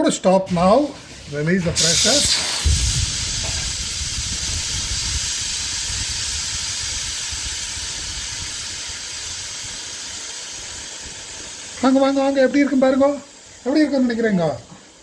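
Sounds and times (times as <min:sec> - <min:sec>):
pressure cooker steam hissing: 0:00.5 - 0:15.0.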